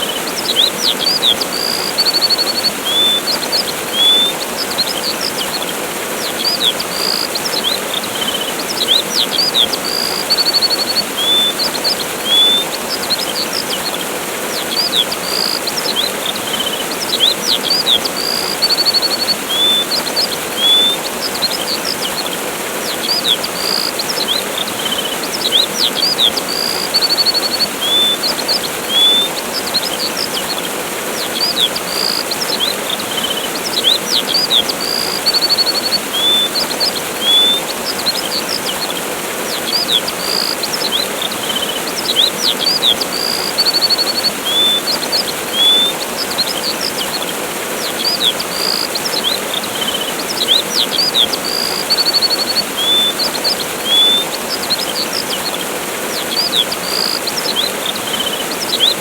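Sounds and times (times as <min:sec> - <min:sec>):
small birds chirping: 0:00.0 - 0:59.0
waterfall rushing: 0:00.0 - 0:59.0.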